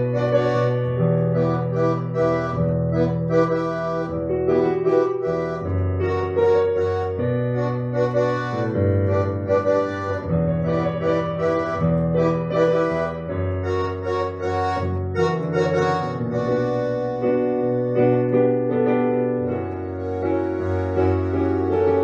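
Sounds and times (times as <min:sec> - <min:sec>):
instrumental music with chords and bass: 0:00.0 - 0:22.0.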